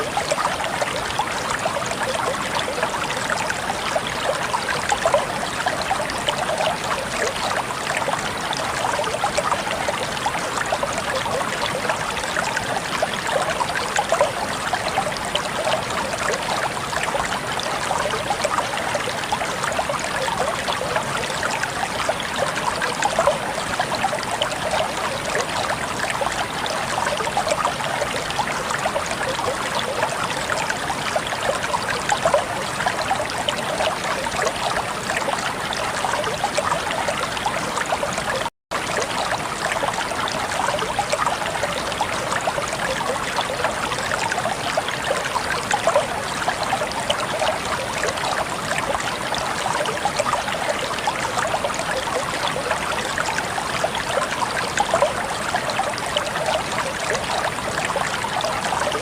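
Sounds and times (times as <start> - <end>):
water flowing and splashing: 0.0 - 59.0.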